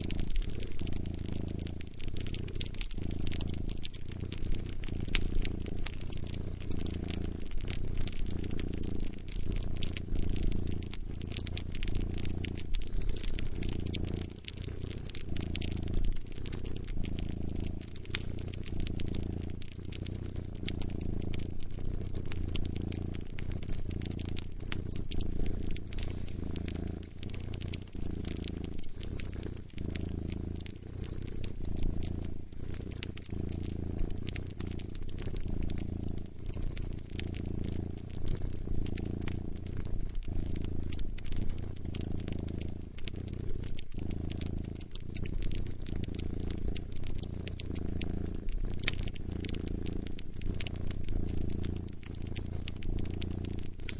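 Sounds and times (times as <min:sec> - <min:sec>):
cat purring: 0:00.0 - 0:53.9
wood fire crackling: 0:00.0 - 0:53.9.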